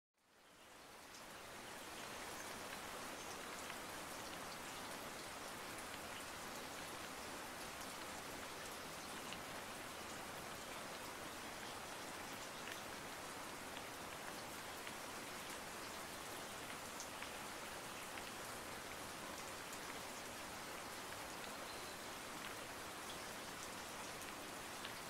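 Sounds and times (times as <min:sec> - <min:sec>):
steady rain hiss: 0:00.2 - 0:25.0
faint raindrop ticks: 0:00.4 - 0:25.0.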